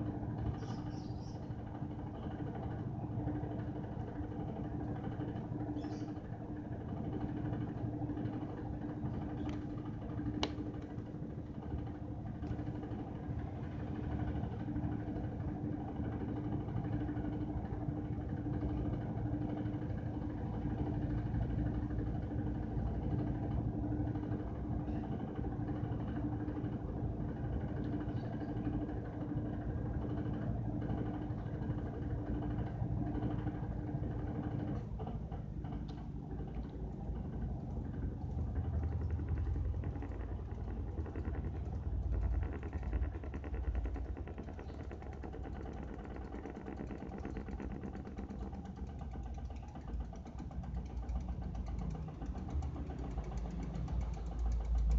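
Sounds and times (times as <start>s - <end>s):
washing machine motor hum: 0.0s - 54.9s.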